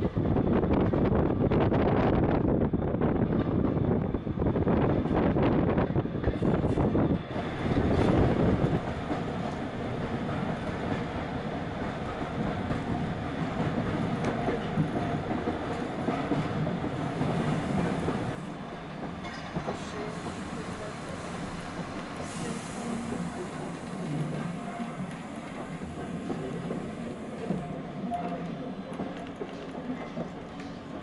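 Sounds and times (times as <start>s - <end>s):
train carriage rumble: 0.0s - 31.0s.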